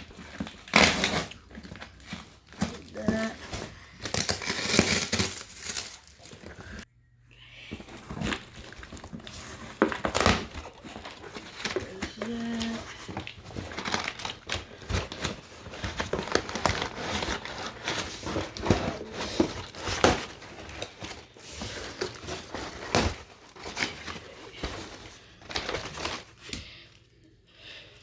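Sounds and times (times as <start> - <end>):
packaging tearing: 0.0 - 6.8, 7.9 - 26.6
packing material crinkling: 0.0 - 6.9, 7.7 - 26.7.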